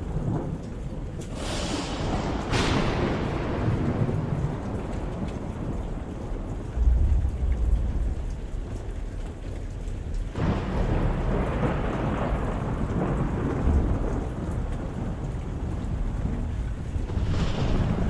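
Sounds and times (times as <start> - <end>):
steady rain: 0.0 - 18.0
thunder rumbling: 0.0 - 18.0
thunderclap: 0.0 - 18.0.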